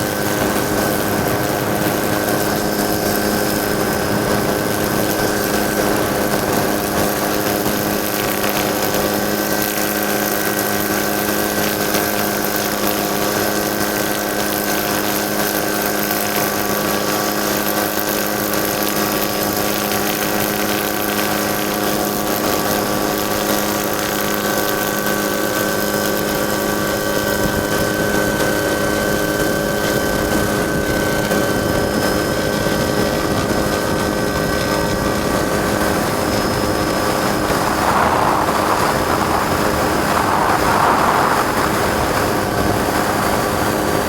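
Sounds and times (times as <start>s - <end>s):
helicopter engine and rotor noise: 0.0s - 44.0s.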